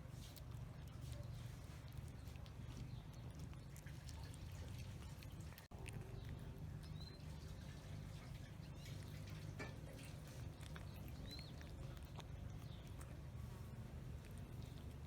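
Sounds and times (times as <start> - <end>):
animals chewing and licking: 0.0 - 15.0.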